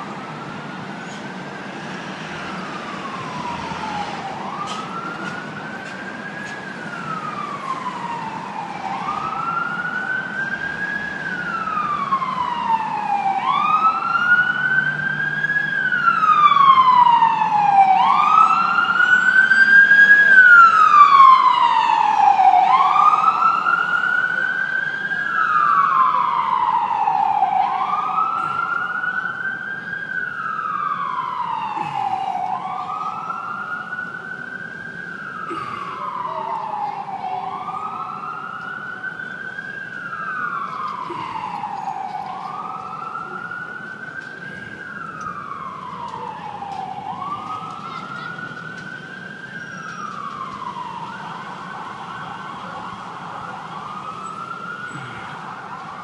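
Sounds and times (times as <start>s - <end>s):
ambulance siren wailing: 0.0s - 56.0s.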